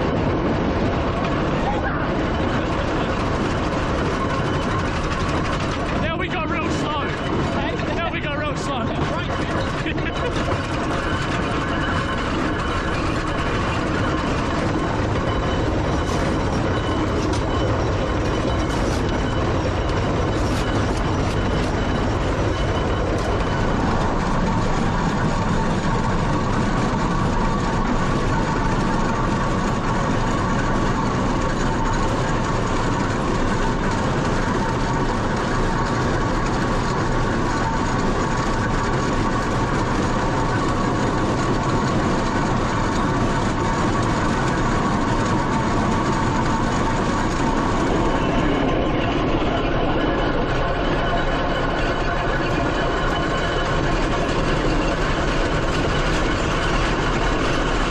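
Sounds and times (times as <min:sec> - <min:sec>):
steady higher tone: 0:00.0 - 0:57.9
steam engine running: 0:00.0 - 0:57.9.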